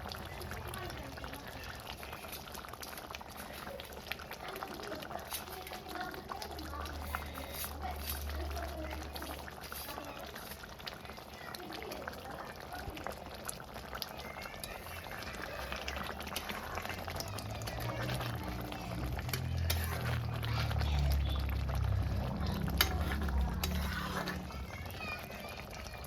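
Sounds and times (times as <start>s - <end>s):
curry bubbling in a pan: 0.0s - 26.0s.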